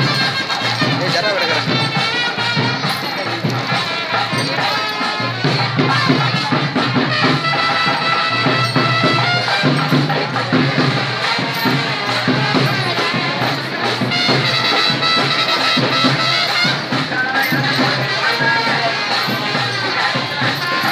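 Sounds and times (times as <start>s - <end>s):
music with percussion beat: 0.0s - 20.9s.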